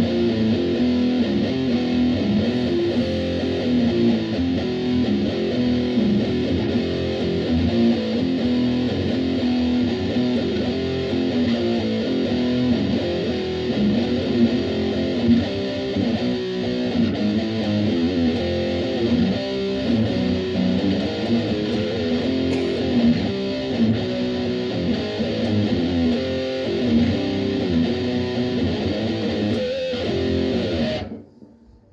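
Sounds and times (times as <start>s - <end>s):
electric guitar playing blues: 0.0s - 31.3s.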